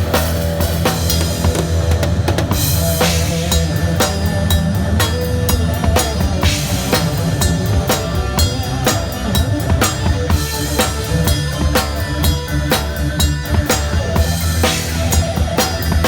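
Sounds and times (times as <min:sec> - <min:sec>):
drum kit groove: 0:00.0 - 0:16.0
low bass notes: 0:00.0 - 0:16.0.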